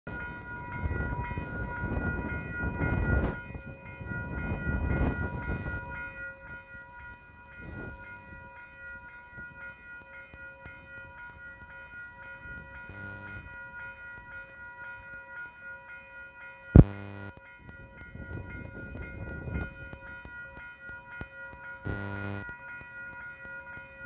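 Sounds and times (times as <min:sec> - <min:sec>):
level crossing bells ringing: 0:00.1 - 0:24.0.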